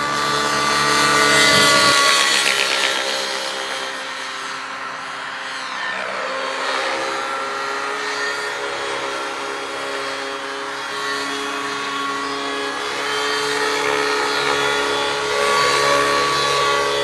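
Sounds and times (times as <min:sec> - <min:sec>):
rc helicopter engine and rotor whine: 0:00.0 - 0:17.0.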